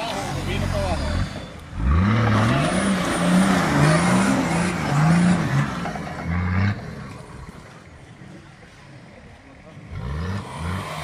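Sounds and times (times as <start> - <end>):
off-road vehicle engine revving: 0.0 - 7.9, 9.6 - 11.0.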